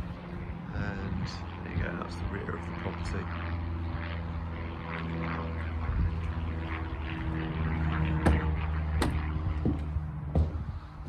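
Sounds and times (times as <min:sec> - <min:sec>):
steady engine drone: 0:00.0 - 0:11.0.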